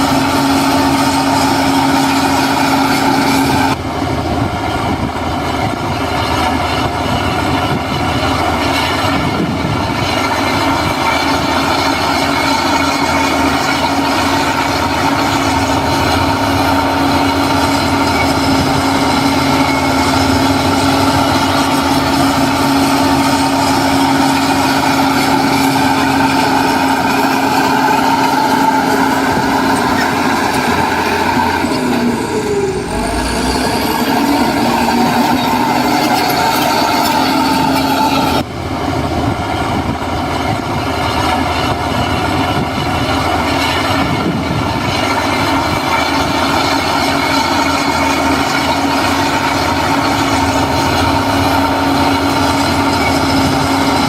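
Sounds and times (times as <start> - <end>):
heavy machine diesel engine running: 0.0 - 54.0.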